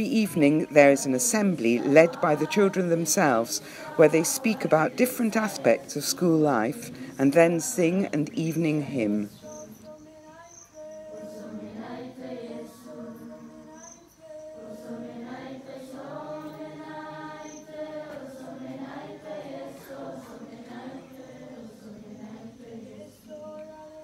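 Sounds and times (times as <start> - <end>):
children singing a hymn: 0.0 - 24.0.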